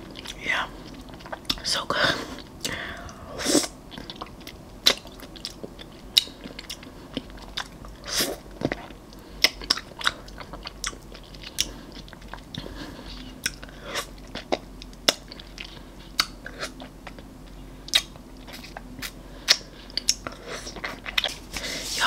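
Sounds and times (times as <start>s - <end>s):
biting and chewing ice cream: 0.0s - 1.7s, 2.4s - 21.7s.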